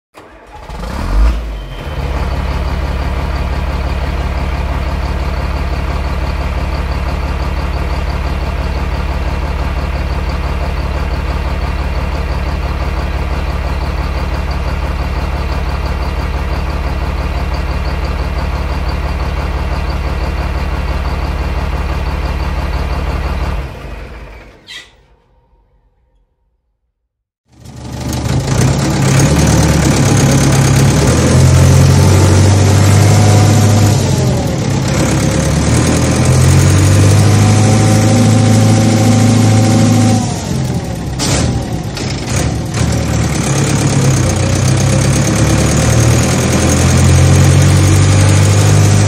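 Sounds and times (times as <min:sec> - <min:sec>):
heavy vehicle engine droning: 0:00.2 - 0:26.6, 0:27.5 - 0:49.0.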